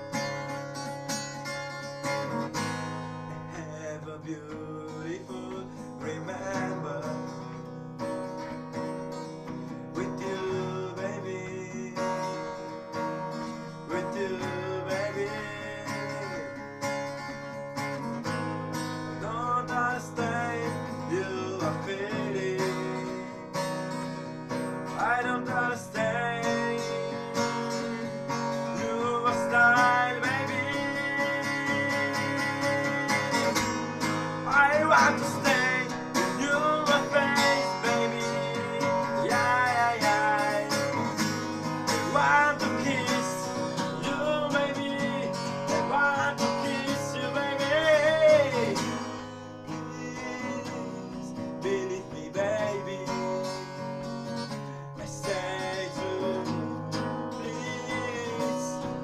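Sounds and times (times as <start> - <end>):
strummed acoustic guitar: 0.0 - 59.0
man singing: 3.2 - 7.8, 9.5 - 18.2, 19.0 - 59.0.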